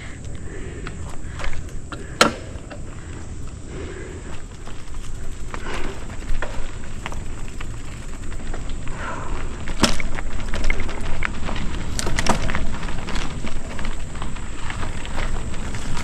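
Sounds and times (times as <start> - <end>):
bike clattering over bumps: 0.0 - 16.0
wind and tyre rumble: 0.0 - 16.0.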